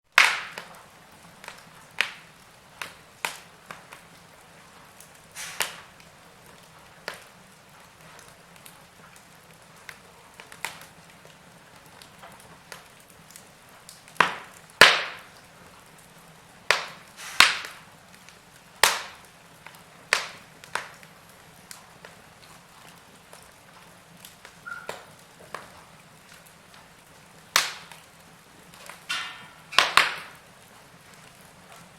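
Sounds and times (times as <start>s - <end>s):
faint steady fire hiss: 0.0s - 31.9s
wood fire pops and snaps: 0.1s - 31.9s.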